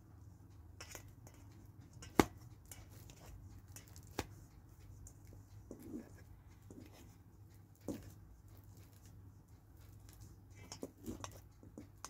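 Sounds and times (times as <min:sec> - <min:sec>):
fork mashing banana: 0:00.8 - 0:12.0.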